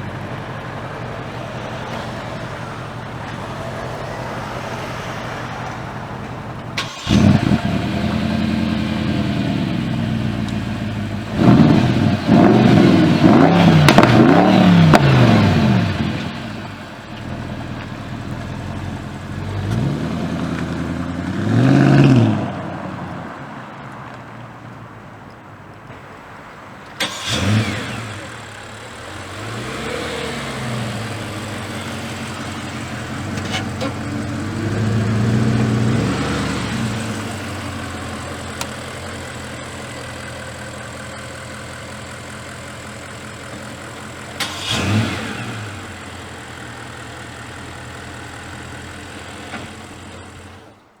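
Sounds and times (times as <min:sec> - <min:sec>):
car engine revving and idling: 0:00.0 - 0:25.4, 0:26.2 - 0:51.0.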